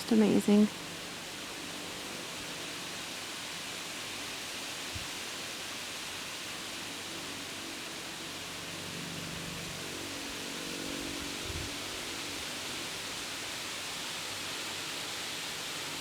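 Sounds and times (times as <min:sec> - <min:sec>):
wind rustling tree leaves: 0:00.0 - 0:16.0.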